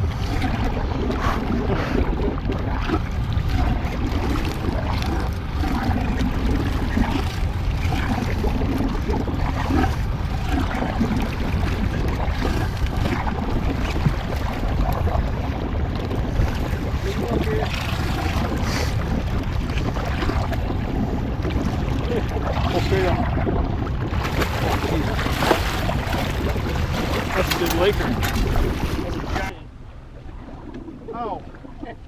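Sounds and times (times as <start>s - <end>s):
fish thrashing in water: 0.0s - 29.6s
water lapping against boat: 0.0s - 32.0s
wind rumble on microphone: 0.0s - 32.0s.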